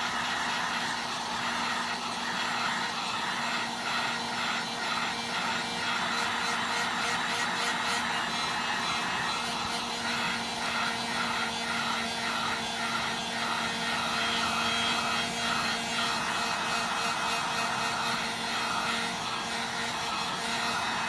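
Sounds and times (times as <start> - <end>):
heat gun blowing air: 0.0 - 21.0.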